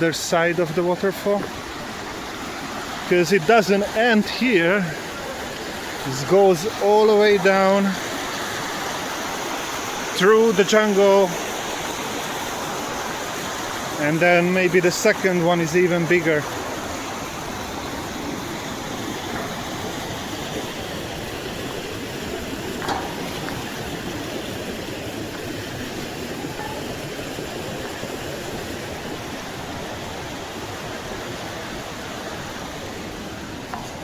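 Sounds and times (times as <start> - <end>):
waterfall roaring: 0.0 - 34.0.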